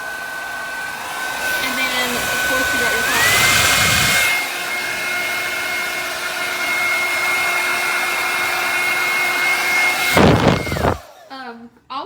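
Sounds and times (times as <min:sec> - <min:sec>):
hair dryer running: 0:00.0 - 0:11.6.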